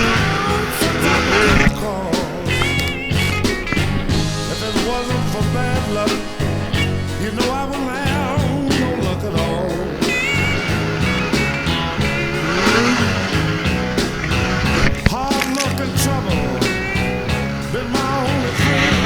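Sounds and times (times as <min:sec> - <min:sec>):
blues-rock music: 0:00.0 - 0:19.0.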